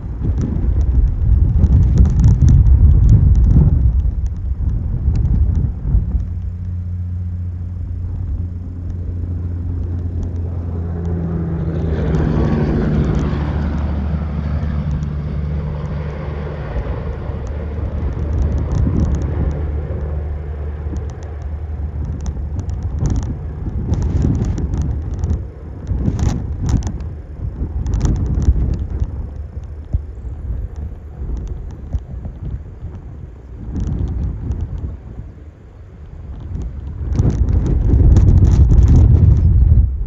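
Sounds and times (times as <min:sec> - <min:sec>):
road noise: 0:00.0 - 0:40.0
vehicle engine hum: 0:00.0 - 0:40.0.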